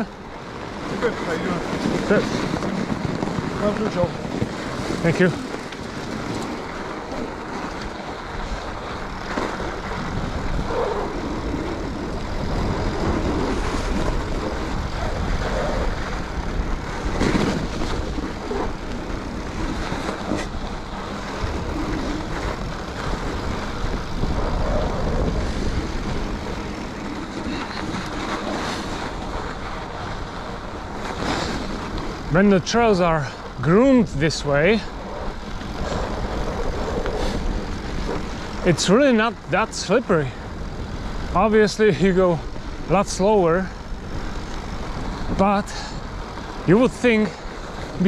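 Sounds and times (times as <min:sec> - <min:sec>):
bike tyres and drivetrain: 0:00.0 - 0:48.0
wind rumble on microphone: 0:00.0 - 0:48.0.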